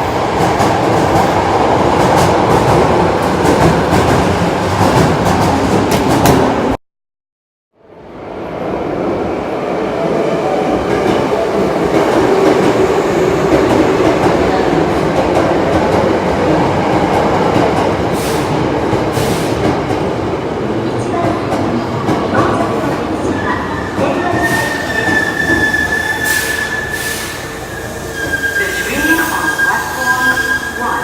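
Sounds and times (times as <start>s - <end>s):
train wheels rumbling on rail: 0.0s - 6.8s, 10.0s - 31.0s.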